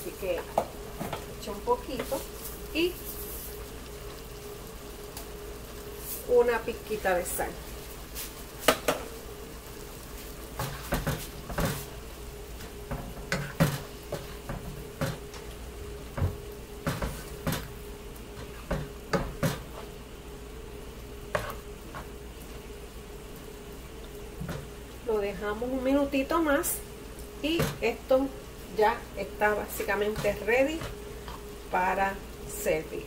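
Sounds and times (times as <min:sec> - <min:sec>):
food sizzling in a pot: 0:00.0 - 0:33.0.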